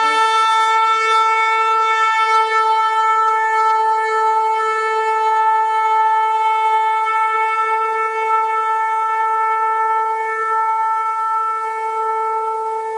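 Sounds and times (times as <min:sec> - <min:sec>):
horn long note: 0:00.0 - 0:12.9.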